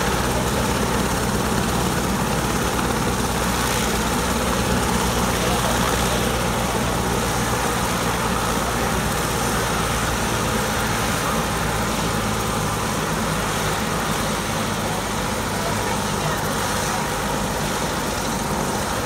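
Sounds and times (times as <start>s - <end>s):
helicopter idling: 0.0s - 19.0s.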